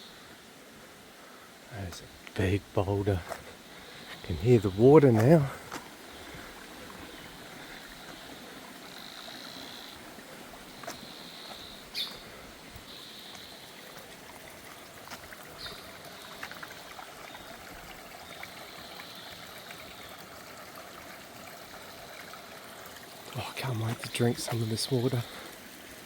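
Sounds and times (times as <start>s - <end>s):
stream trickling over rocks: 0.0s - 26.0s.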